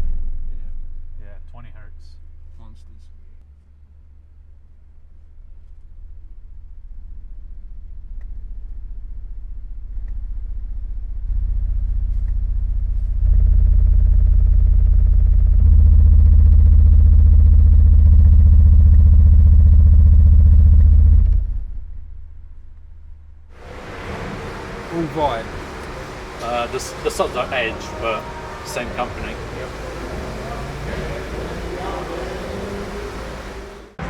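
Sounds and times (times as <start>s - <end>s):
subwoofers playing deep bass: 6.0s - 34.0s.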